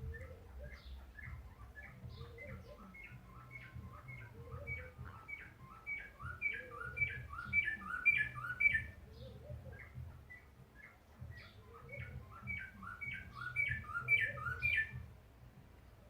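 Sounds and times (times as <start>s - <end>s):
low bird warbling: 0.0s - 15.0s
birds chirping: 0.0s - 16.0s.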